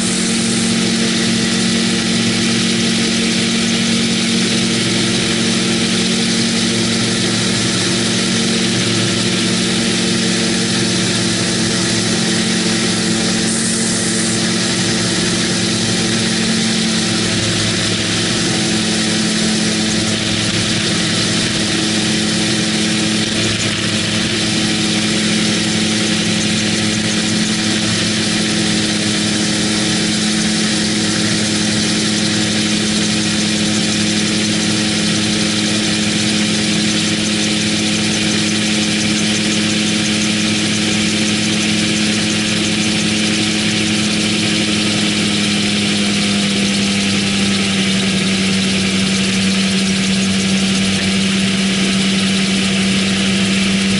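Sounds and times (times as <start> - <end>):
autogyro engine and propeller droning: 0.0 - 53.9.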